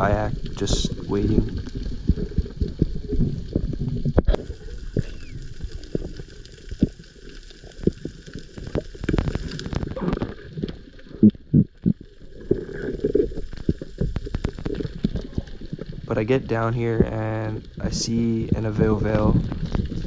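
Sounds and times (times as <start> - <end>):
muffled water sloshing and gurgling: 0.0 - 20.0.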